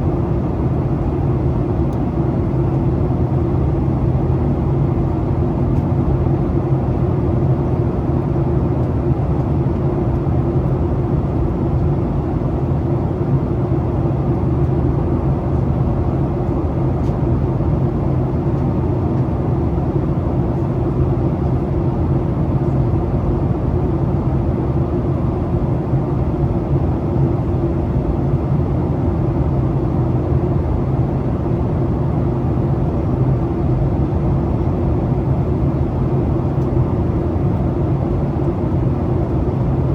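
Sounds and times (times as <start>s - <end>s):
airliner engine drone: 0.0s - 39.9s.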